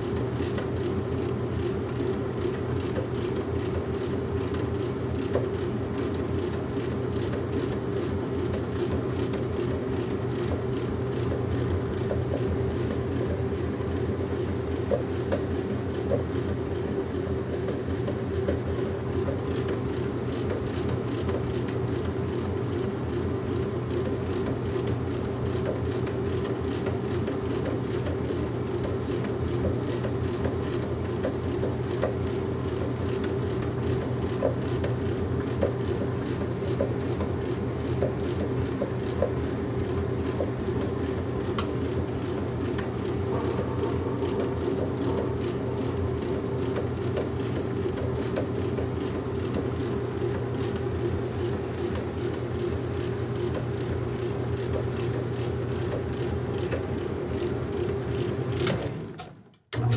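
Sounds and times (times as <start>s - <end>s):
washing machine running: 0.0s - 59.9s.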